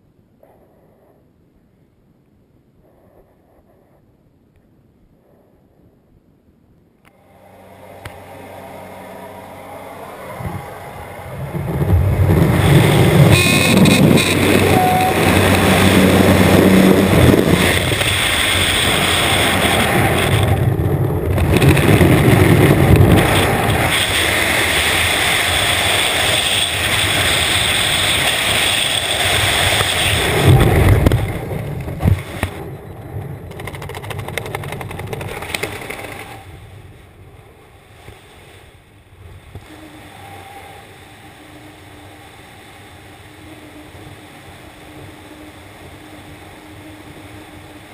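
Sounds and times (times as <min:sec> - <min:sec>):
aircraft noise: 0:07.0 - 0:38.2, 0:39.5 - 0:47.9
wind rushing over microphone: 0:08.0 - 0:47.9.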